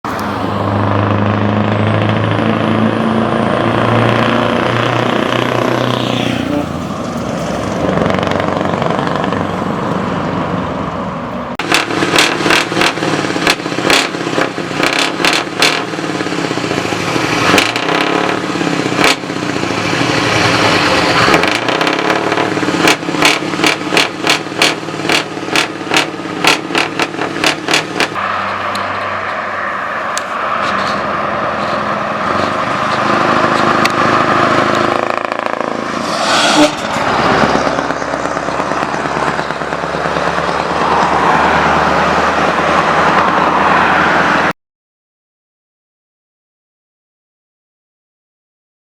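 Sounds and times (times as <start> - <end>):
diesel truck engine: 0.0 - 44.6.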